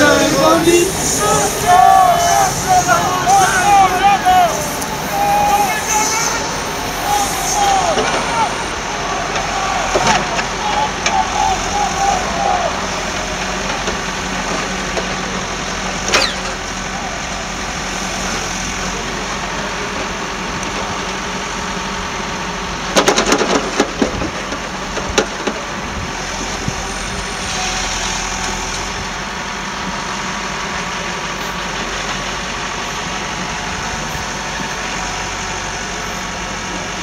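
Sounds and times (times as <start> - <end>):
train coaches rumbling: 0.0 - 37.0.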